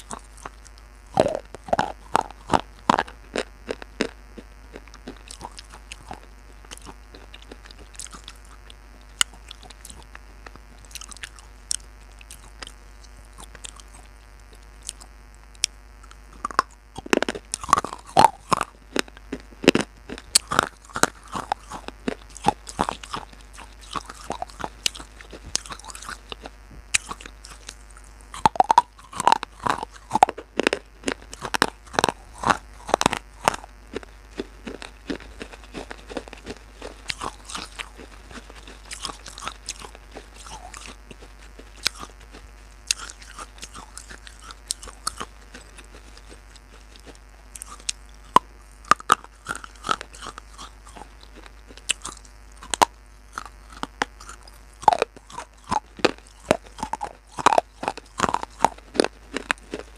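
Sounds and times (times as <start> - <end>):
crunching and chewing clay pieces: 0.0 - 59.9.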